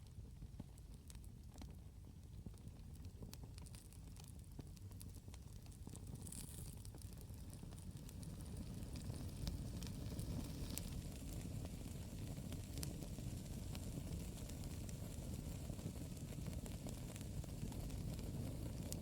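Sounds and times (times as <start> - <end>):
campfire crackling and popping: 2.3 - 19.0.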